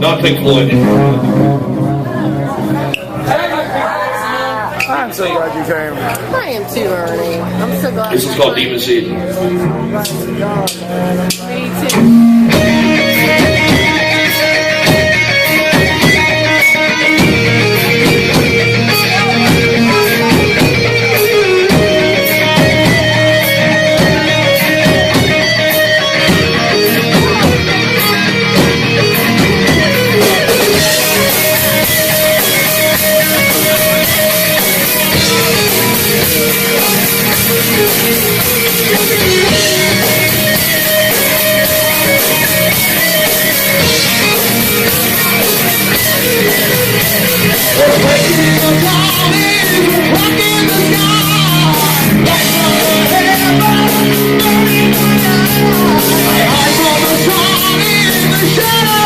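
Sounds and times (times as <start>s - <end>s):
heavy metal band playing live: 0.0s - 3.5s, 7.5s - 59.0s.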